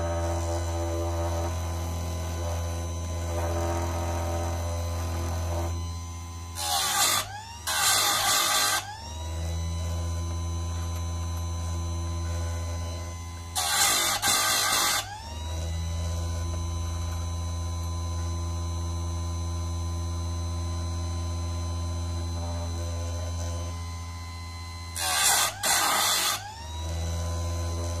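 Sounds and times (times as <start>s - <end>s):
chain sharpener motor humming: 0.0s - 28.0s.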